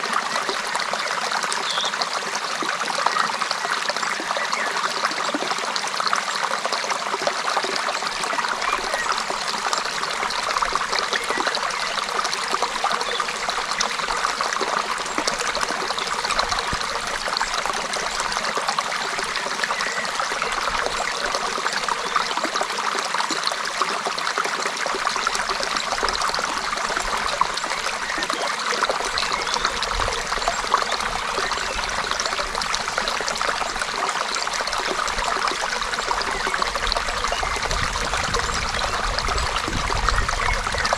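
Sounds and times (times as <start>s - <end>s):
creek water over stones: 0.0s - 40.9s.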